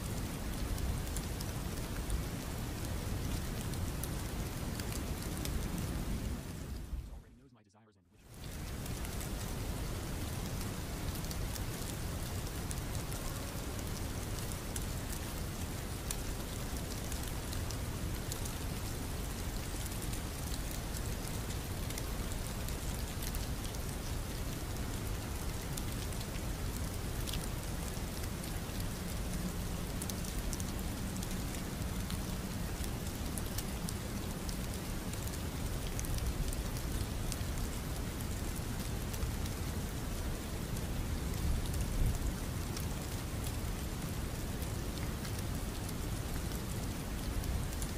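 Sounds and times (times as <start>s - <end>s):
raindrop ticks: 0.1s - 7.3s, 8.3s - 47.9s
rain hissing: 8.3s - 47.9s.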